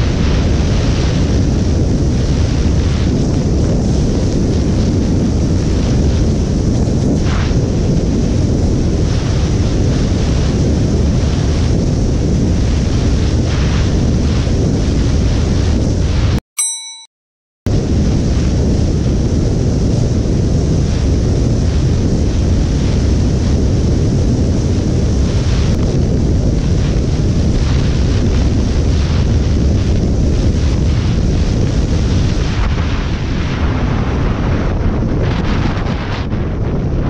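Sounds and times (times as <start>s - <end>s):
wind rumble on microphone: 0.0s - 16.4s, 17.7s - 37.0s.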